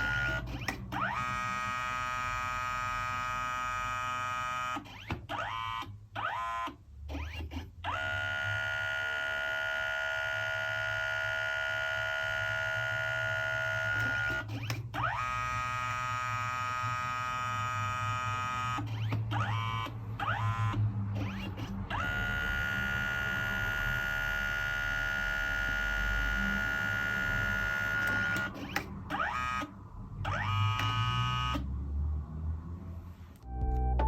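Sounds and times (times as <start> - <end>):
photo printer motor whining: 0.0 - 29.7.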